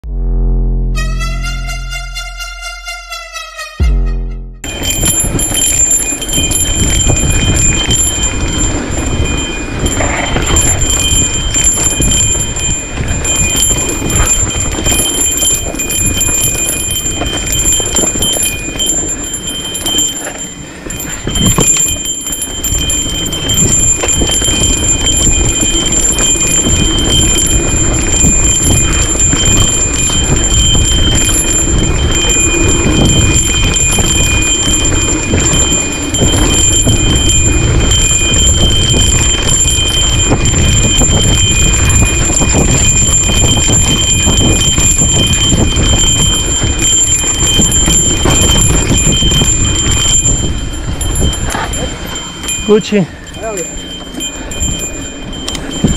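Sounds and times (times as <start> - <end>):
bike rattling and knocking: 4.6 - 55.9
bike tyres rolling over dirt and stones: 4.7 - 52.7.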